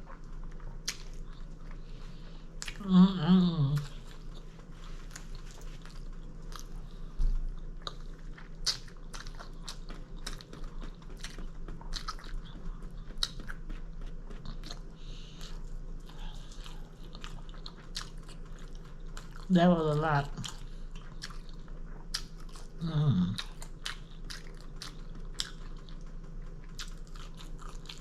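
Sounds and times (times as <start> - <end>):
chewing food: 0.0 - 28.0.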